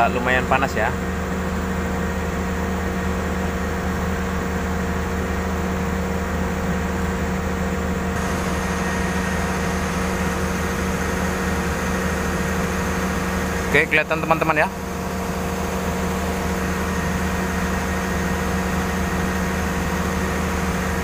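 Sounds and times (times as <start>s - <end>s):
diesel excavator engine idling: 0.0s - 21.0s.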